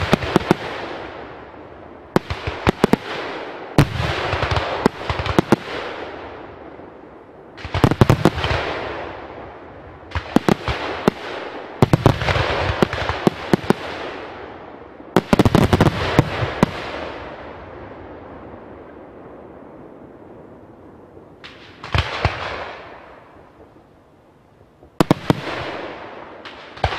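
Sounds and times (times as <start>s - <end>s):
fireworks bangs: 0.0s - 6.8s, 7.5s - 19.2s, 21.3s - 23.9s, 24.8s - 26.9s.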